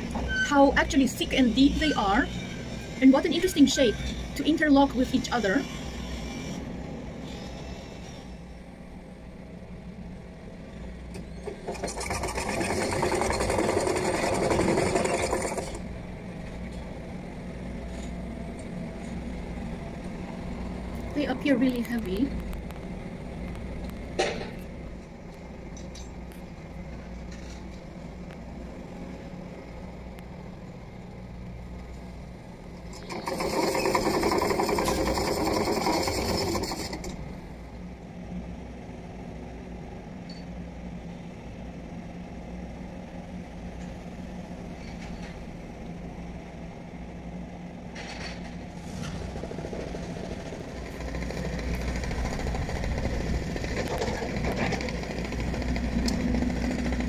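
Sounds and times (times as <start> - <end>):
construction machinery engine humming: 0.0 - 57.0.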